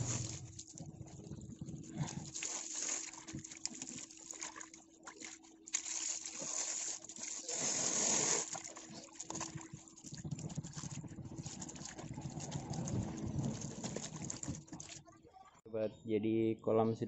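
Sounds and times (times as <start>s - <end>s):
hose water splashing: 0.0s - 15.0s.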